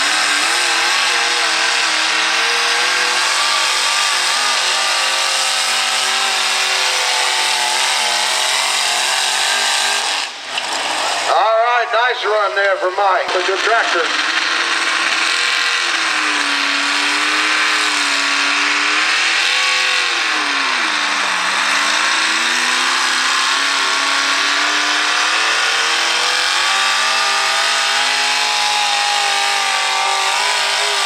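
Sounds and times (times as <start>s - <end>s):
pulling tractor engine running loud: 0.0s - 31.0s.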